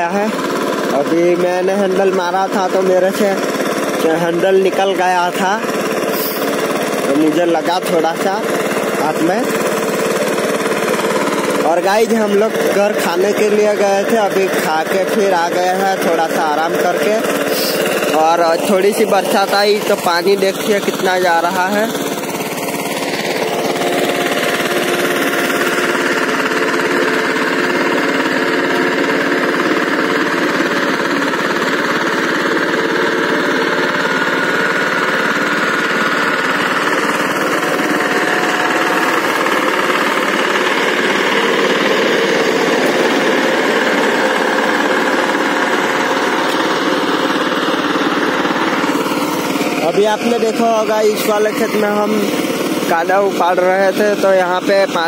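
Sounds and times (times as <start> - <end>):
diesel tiller engine knocking: 0.0 - 55.0.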